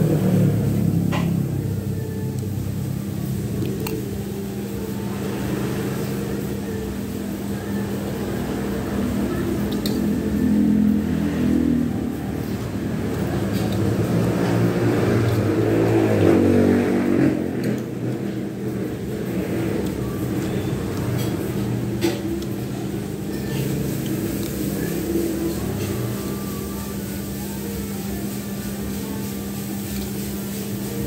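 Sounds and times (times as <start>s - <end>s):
low motor rumble: 0.0s - 31.0s.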